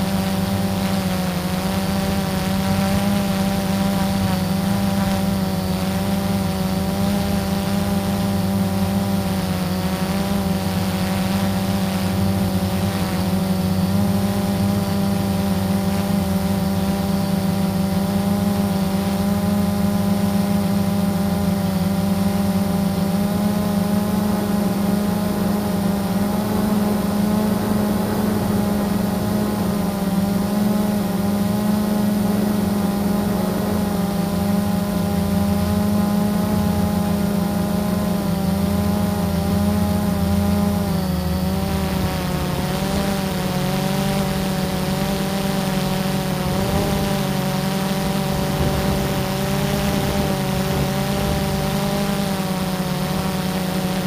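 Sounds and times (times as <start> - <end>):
drone propellers humming: 0.0 - 54.0.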